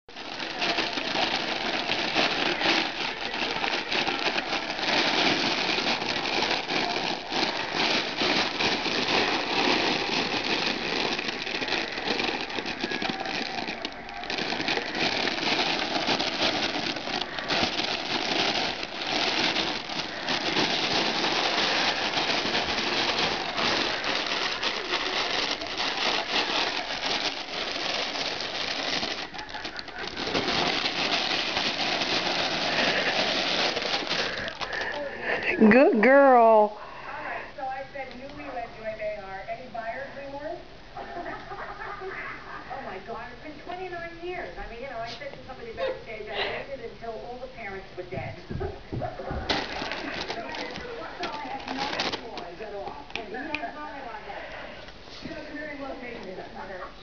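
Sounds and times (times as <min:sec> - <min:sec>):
crinkle tunnel rustling: 0:00.0 - 0:40.1, 0:42.8 - 0:57.0.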